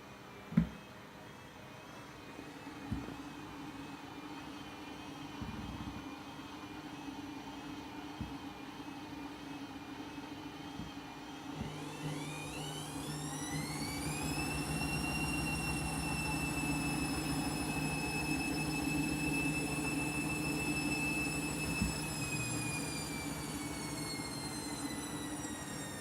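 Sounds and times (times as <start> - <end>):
washing machine spinning: 2.2 - 26.0.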